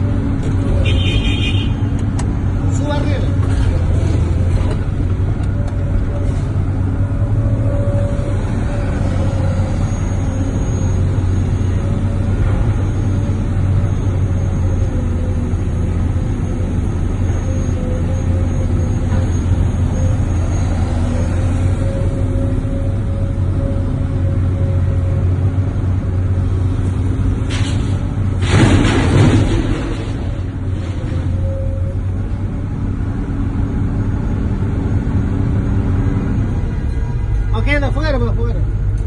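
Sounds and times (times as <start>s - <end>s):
heavy machinery engine drone: 0.0s - 39.0s.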